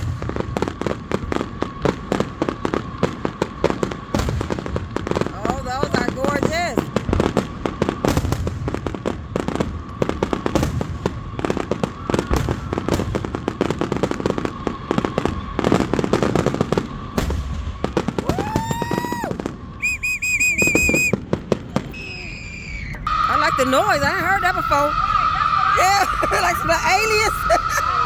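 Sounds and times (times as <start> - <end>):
fireworks crackling and popping: 0.0 - 28.0
rising firework whistle: 0.0 - 28.0
warbling firework whistle: 0.0 - 28.0.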